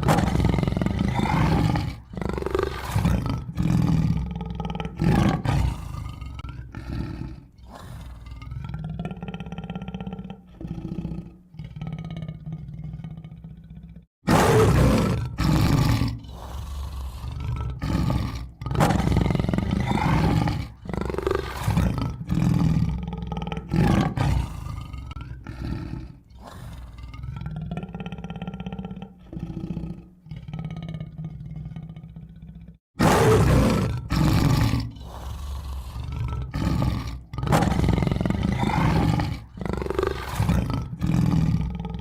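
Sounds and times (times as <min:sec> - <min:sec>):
tiger roaring: 0:00.0 - 0:42.0.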